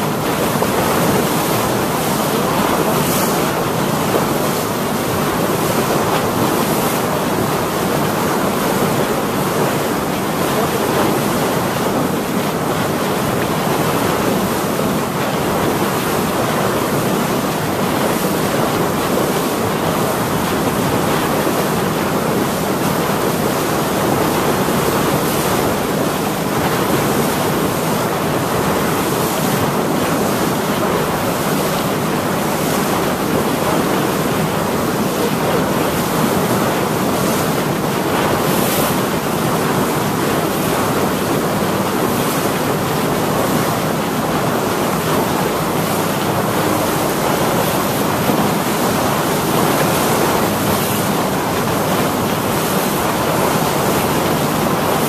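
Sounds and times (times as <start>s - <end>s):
choppy water around boat: 0.0s - 55.0s.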